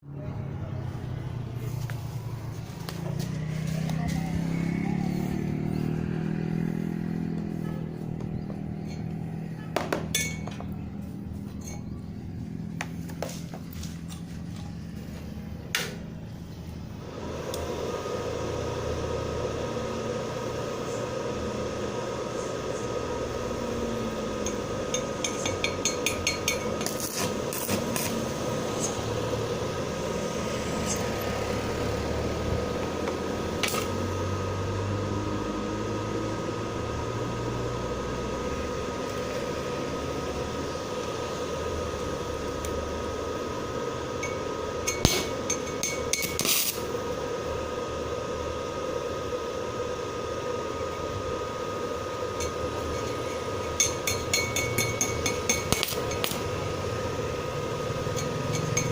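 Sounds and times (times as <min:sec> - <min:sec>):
faint high whine: 0:00.0 - 0:58.9
welding arc crackling hiss: 0:01.4 - 0:58.9.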